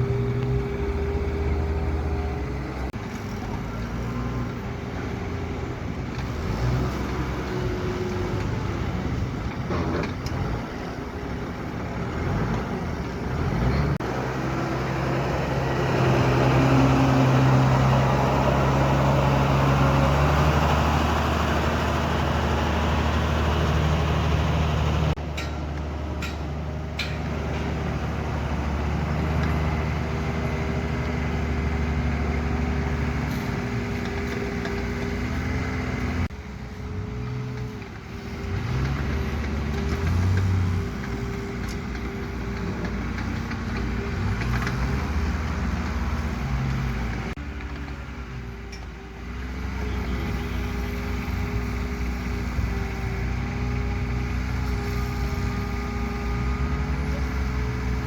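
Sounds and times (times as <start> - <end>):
heavy construction machine engine: 0.0 - 58.0.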